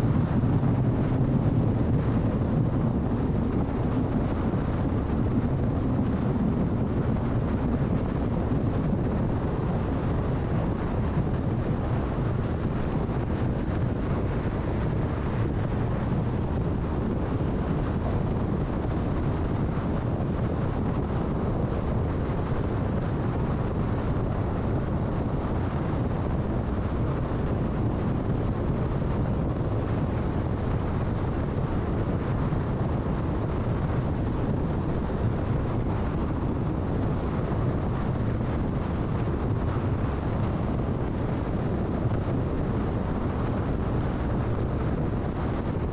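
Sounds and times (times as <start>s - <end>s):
tyre and wind noise: 0.0s - 45.9s.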